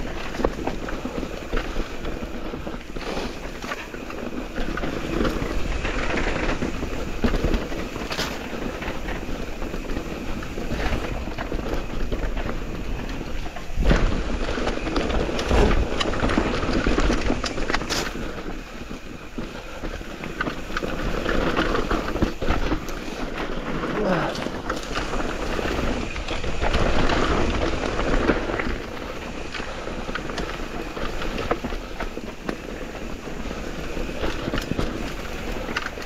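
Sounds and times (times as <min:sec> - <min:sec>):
bike knocks and rattles on bumps: 0:00.0 - 0:36.0
tyres rushing on dirt: 0:00.0 - 0:36.0.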